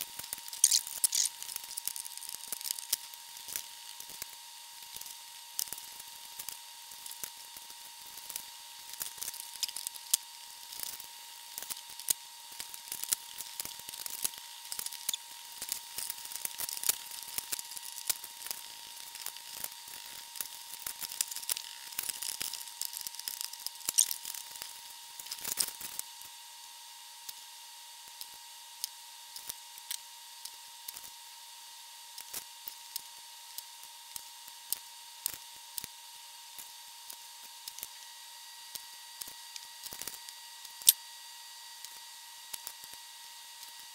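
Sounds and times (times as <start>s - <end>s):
faint high hum: 0.0s - 43.9s.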